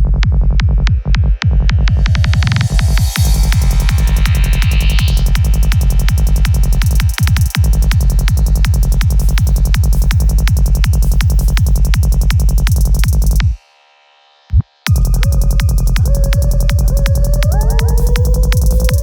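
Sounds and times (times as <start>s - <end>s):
psytrance music: 0.0s - 19.0s.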